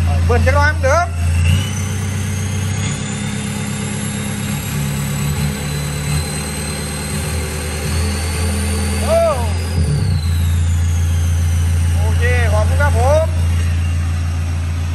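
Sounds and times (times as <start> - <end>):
diesel engine running: 0.0 - 14.9
turbo whistle: 1.2 - 14.2.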